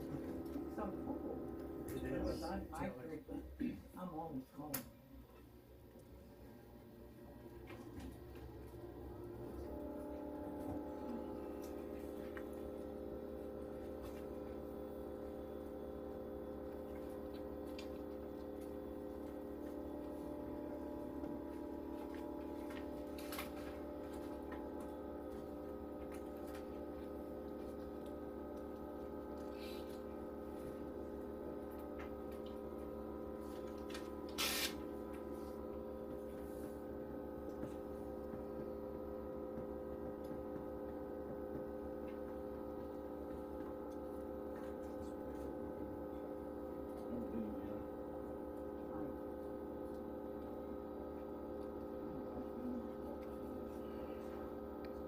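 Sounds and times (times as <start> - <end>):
machine humming: 0.0 - 55.0.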